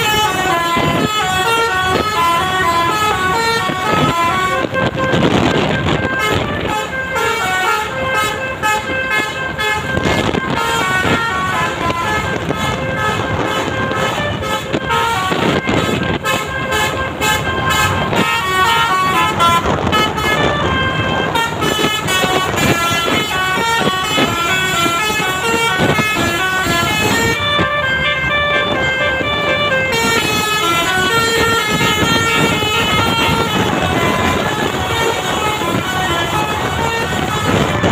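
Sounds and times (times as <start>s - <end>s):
multi-tone bus horn melody: 0.0s - 37.9s.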